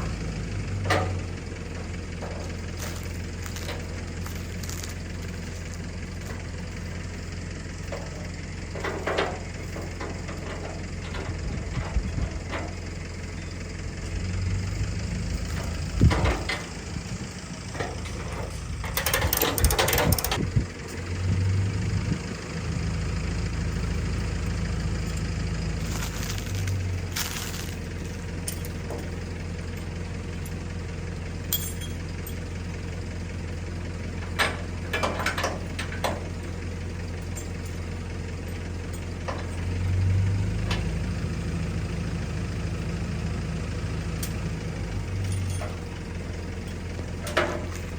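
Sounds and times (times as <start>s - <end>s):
vehicle engine idling: 0.0s - 47.9s.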